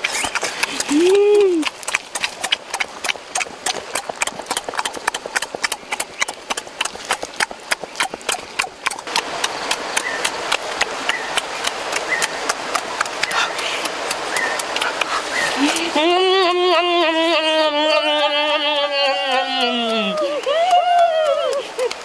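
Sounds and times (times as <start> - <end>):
open-mouthed chewing: 0.0 - 22.0.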